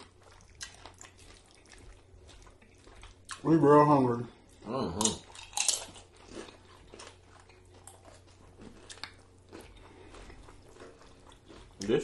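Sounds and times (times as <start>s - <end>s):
chewing and lip smacking: 0.0s - 3.6s, 4.4s - 12.0s.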